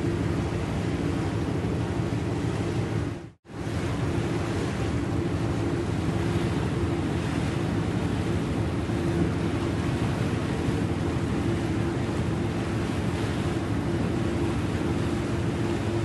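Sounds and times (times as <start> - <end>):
boat engine drone: 0.0 - 16.0
water noise: 0.0 - 16.0
wind: 0.0 - 16.0.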